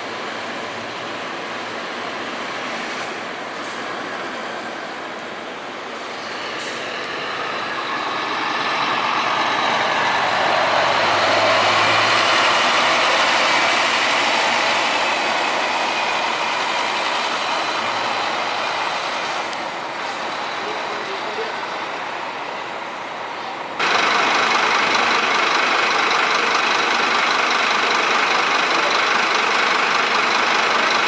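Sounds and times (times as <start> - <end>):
bus passing by: 0.0 - 31.0.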